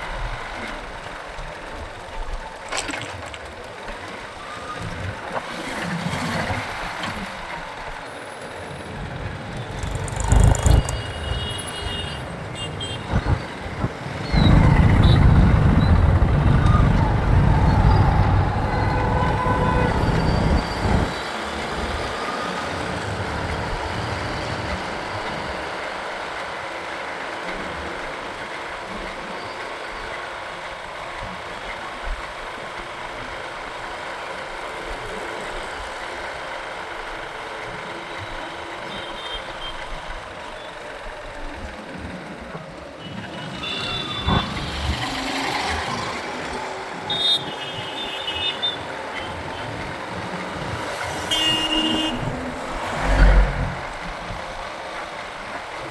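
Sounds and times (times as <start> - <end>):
motorcycle in traffic: 3.7 - 55.9.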